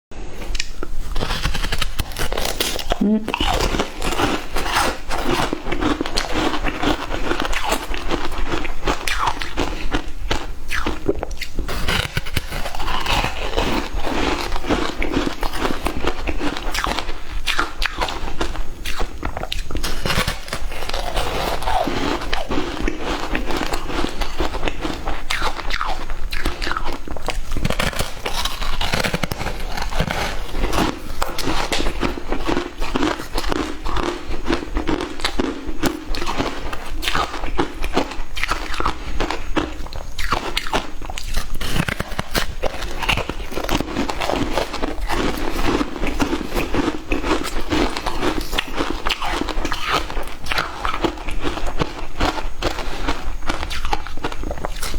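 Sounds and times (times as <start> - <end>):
crunching frozen ice: 0.6 - 52.8.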